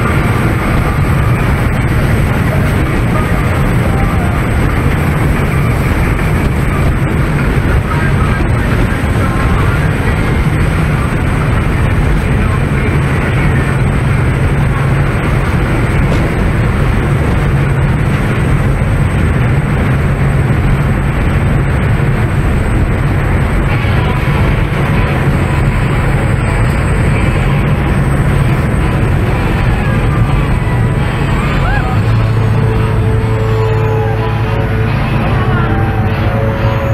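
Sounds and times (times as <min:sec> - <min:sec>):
boat engine drone: 0:00.0 - 0:36.9
rush of wake and spray: 0:00.0 - 0:36.9
wind buffeting microphone: 0:00.0 - 0:36.9.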